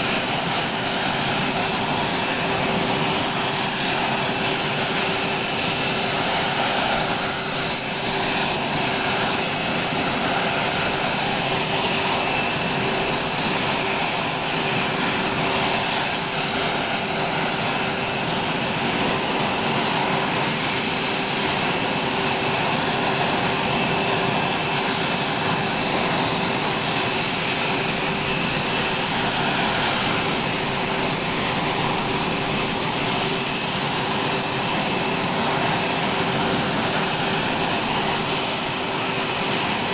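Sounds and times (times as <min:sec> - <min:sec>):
jet aircraft engine rushing: 0:00.0 - 0:39.9
steady whining tones: 0:00.0 - 0:39.9.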